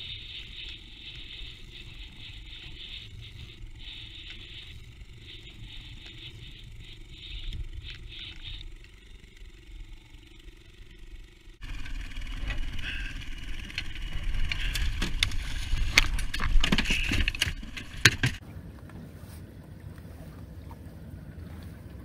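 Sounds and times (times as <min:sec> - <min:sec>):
fishing reel being cranked: 0:00.0 - 0:18.4
scraping with sharp knocks and clicks: 0:00.0 - 0:18.4
low wind rumble: 0:00.0 - 0:22.0.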